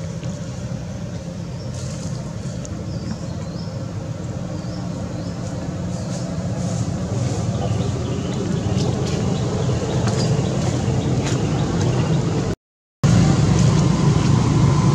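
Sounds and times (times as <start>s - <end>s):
low engine rumble: 0.0s - 14.9s.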